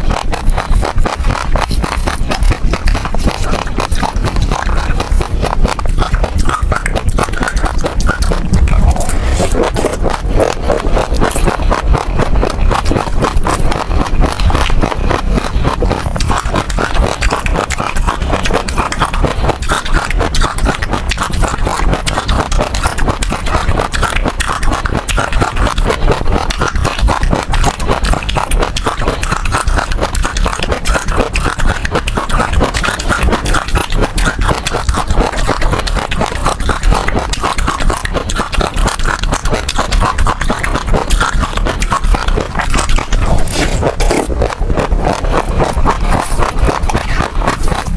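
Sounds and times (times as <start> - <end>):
seeds crunching while chewing: 0.0 - 47.9.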